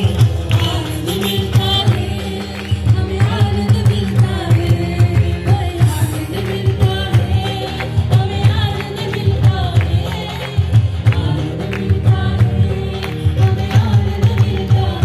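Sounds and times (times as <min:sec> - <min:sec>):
instrumental accompaniment with beat: 0:00.0 - 0:15.0
choir singing: 0:00.6 - 0:15.0.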